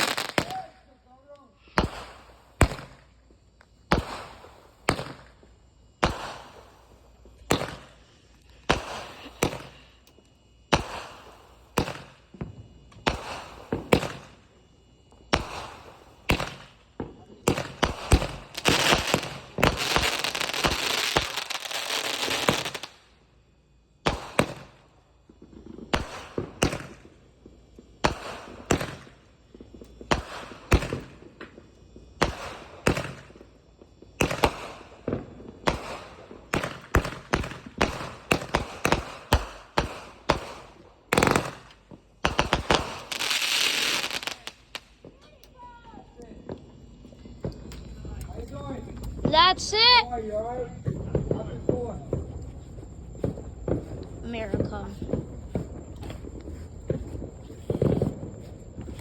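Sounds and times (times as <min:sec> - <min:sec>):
firework hissing crackle: 0:00.0 - 0:59.0
firework bangs with echo: 0:01.7 - 0:03.1, 0:03.9 - 0:05.4, 0:06.0 - 0:08.0, 0:08.6 - 0:09.8, 0:10.7 - 0:14.5, 0:15.3 - 0:23.0, 0:24.0 - 0:33.4, 0:34.1 - 0:45.2, 0:46.4 - 0:59.0.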